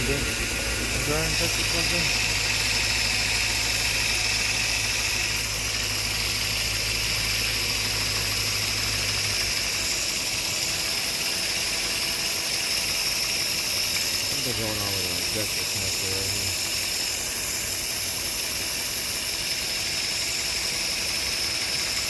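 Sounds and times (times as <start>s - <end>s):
car engine idling with misfire: 0.0s - 22.0s.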